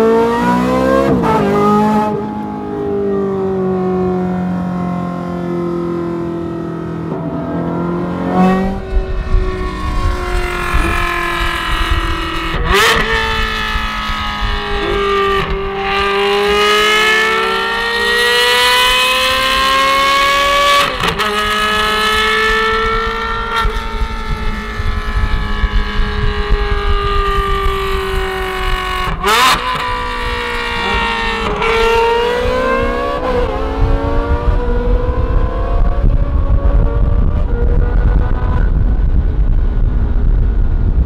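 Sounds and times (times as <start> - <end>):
sports car engine accelerating: 0.0 - 41.0.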